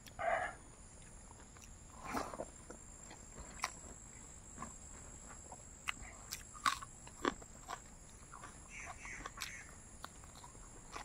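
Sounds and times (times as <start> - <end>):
person chewing with mouth smacks: 1.0 - 11.0.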